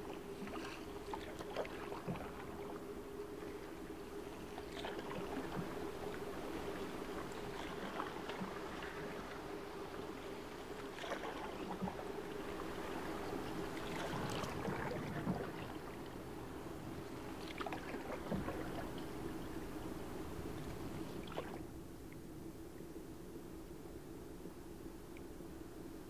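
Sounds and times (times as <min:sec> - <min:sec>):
moving water wash: 0:00.0 - 0:21.7
paddle strokes in water: 0:00.0 - 0:21.8.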